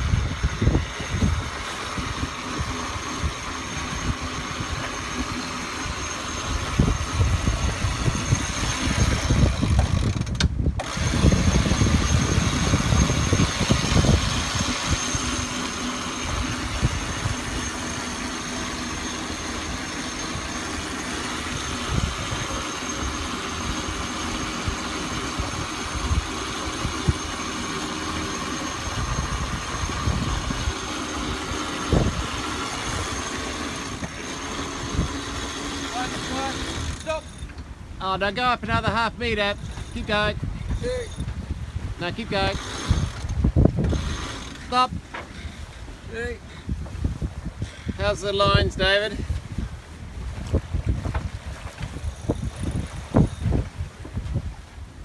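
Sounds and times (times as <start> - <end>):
sea rushing: 0.0 - 55.0
wind buffeting microphone: 0.0 - 55.0.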